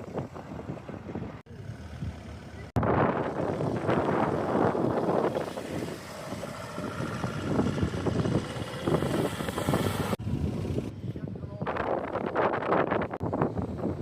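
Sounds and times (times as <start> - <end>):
cars running and moving: 0.0 - 14.0
wind buffeting microphone: 0.0 - 14.0.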